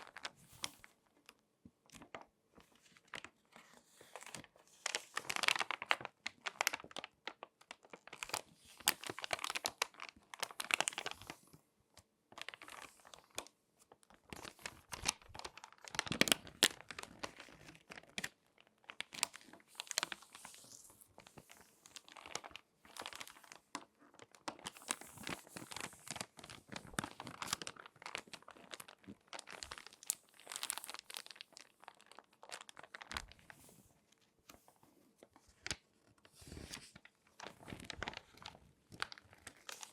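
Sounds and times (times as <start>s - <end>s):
magazine pages crinkling: 2.0s - 11.4s, 12.3s - 39.9s.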